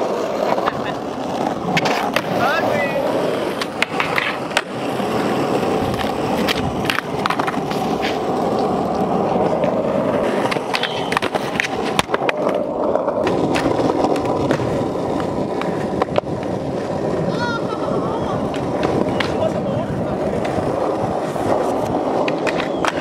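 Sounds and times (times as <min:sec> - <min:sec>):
skateboard clacks: 0:00.0 - 0:23.0
skateboard sliding on metal rail: 0:00.0 - 0:23.0
skateboard wheels rolling on concrete: 0:00.0 - 0:23.0.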